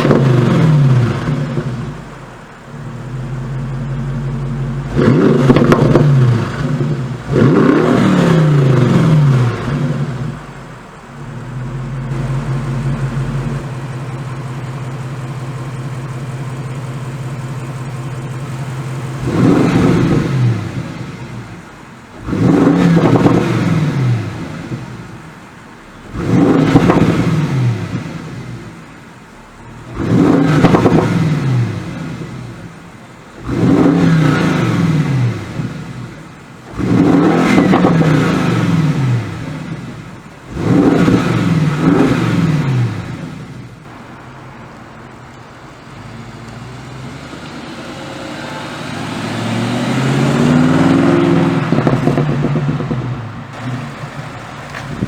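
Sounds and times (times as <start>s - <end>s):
car engine revving: 0.0s - 55.0s
exhaust crackles: 0.0s - 55.0s.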